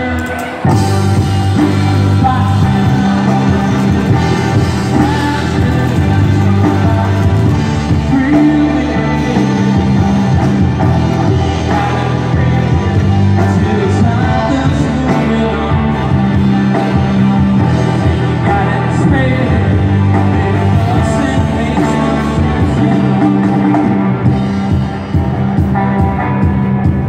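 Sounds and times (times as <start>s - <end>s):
person singing: 0.0s - 25.0s
drums: 0.0s - 27.0s
electric guitars: 0.0s - 27.0s.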